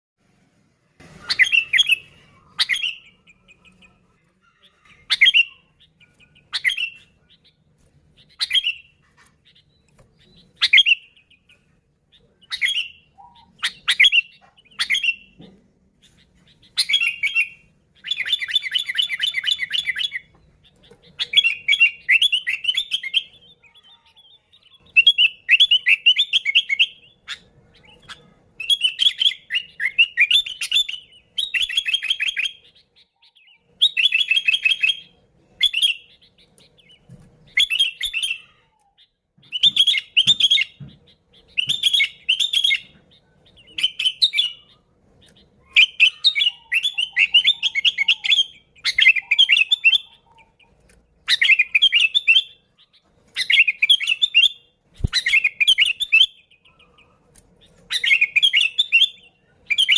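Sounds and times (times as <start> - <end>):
rapid bird chattering: 1.0 - 15.4, 16.0 - 59.9
bird calling: 1.0 - 59.9.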